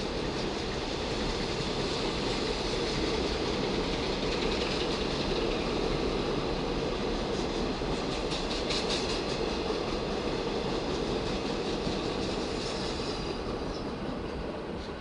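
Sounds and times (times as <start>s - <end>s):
train wheels clacking over rail joints: 0.0s - 15.0s.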